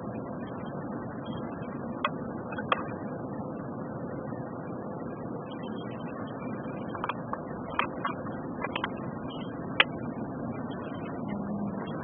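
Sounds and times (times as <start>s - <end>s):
car driving on highway: 0.0s - 12.0s.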